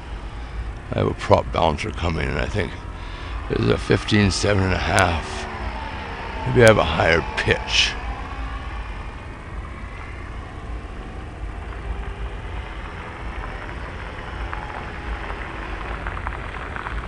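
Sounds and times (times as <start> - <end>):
electric motor driving propeller: 2.1 - 17.0.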